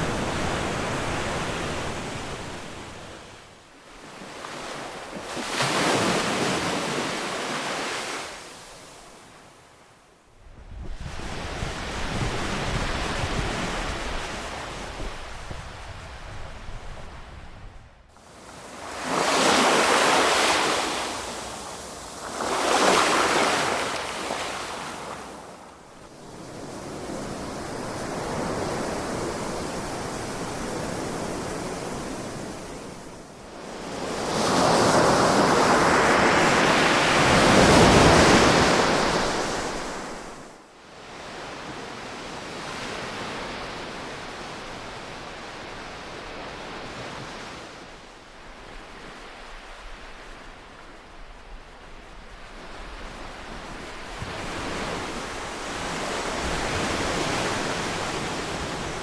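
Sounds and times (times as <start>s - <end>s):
ocean waves breaking on a beach: 0.0s - 59.0s.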